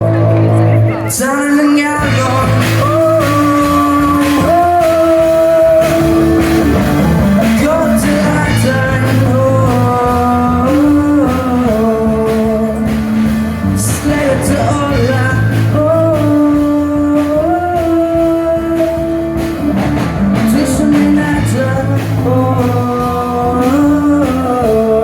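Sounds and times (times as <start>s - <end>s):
guitar: 0.0s - 25.0s
person singing long notes: 0.0s - 25.0s
steady drum beat: 0.0s - 25.0s.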